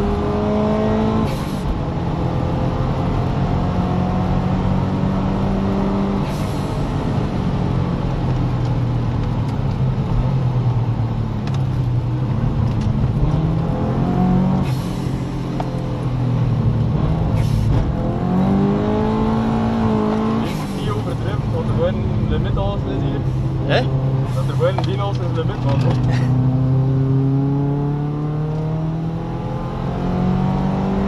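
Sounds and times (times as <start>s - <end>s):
car engine heard from cabin: 0.0s - 31.0s.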